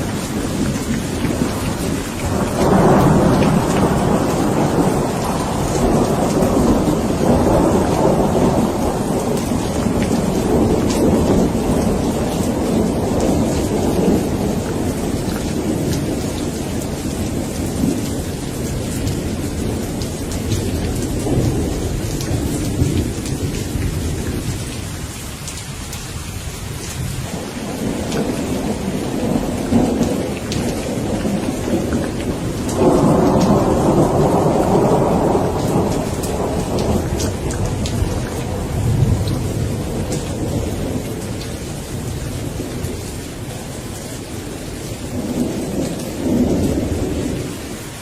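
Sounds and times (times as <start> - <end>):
thunder rumbling: 0.0 - 25.1, 26.4 - 48.0
steady rain: 0.0 - 48.0.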